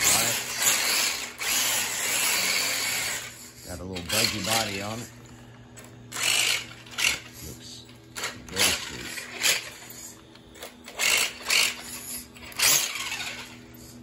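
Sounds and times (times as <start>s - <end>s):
electric motor whine: 0.0s - 5.0s, 5.8s - 13.9s.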